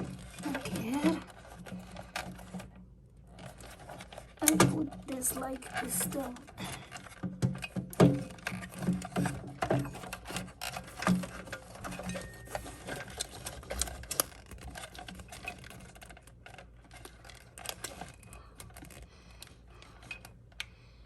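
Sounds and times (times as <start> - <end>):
hands handling plastic parts: 0.0 - 20.9.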